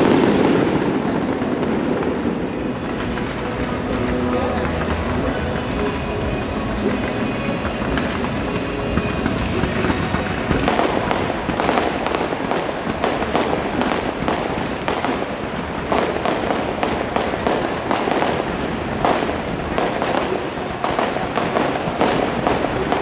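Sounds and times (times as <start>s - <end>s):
fireworks hissing upward: 0.0s - 23.0s
fireworks popping and crackling: 0.0s - 23.0s.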